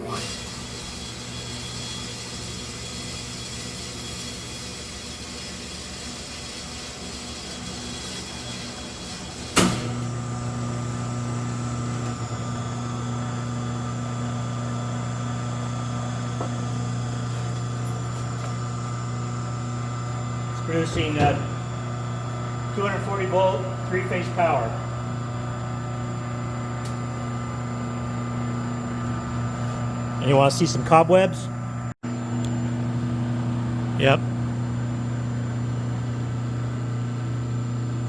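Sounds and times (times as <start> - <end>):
electric motors humming and whining: 0.0 - 38.0.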